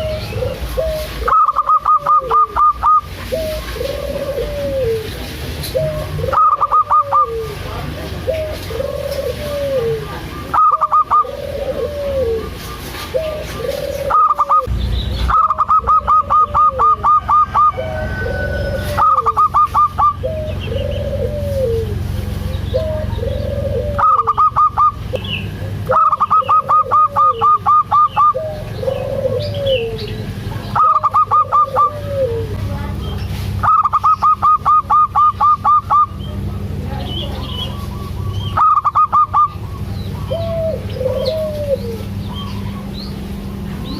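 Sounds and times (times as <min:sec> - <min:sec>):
dove cooing: 0:00.0 - 0:32.9, 0:33.5 - 0:43.9.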